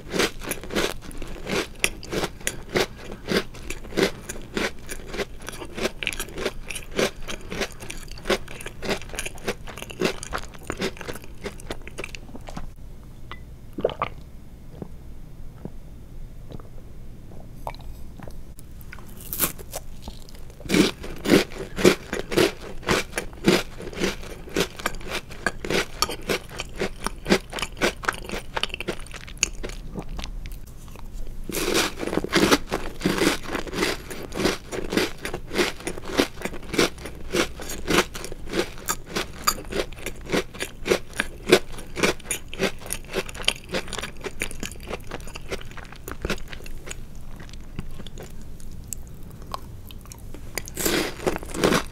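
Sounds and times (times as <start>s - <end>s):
crisp cookie crunching: 0.0s - 12.8s, 18.8s - 51.9s.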